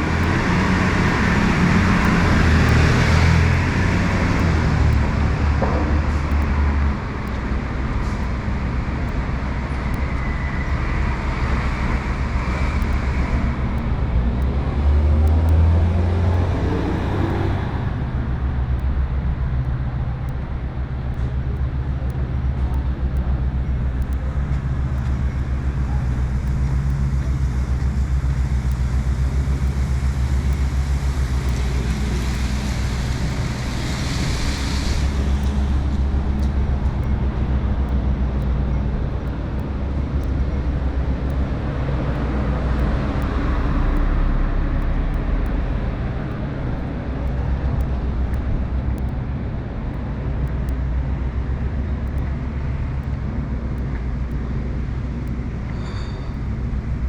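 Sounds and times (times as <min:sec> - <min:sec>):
vehicle engine running: 0:00.0 - 0:55.7.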